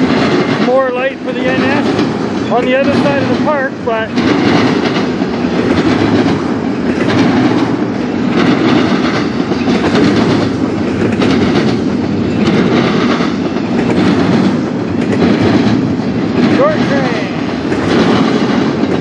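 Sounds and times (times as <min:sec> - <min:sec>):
rail clickety-clack: 0:00.0 - 0:19.0
train wheels rumbling on rail: 0:00.0 - 0:19.0.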